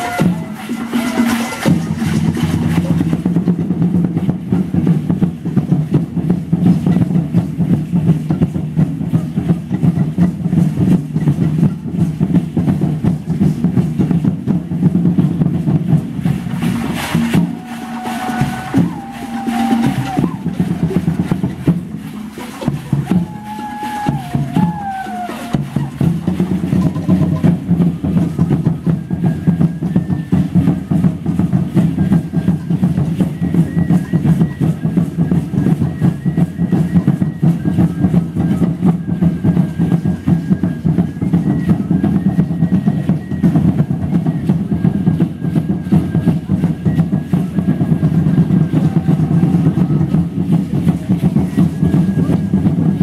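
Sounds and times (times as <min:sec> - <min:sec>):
fast ceremonial drumming: 0:00.0 - 0:53.0.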